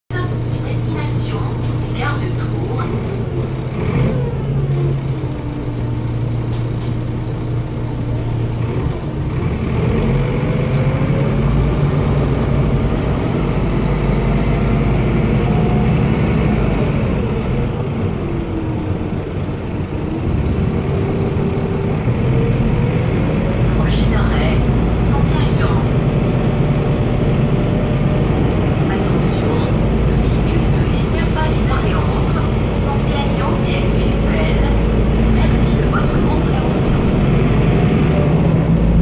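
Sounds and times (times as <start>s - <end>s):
bus engine rumble: 0.1s - 39.0s.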